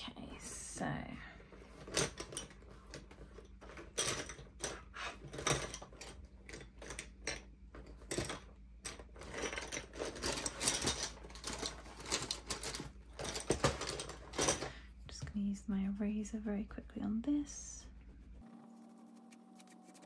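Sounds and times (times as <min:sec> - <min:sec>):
rustling of art supplies: 0:00.0 - 0:20.0.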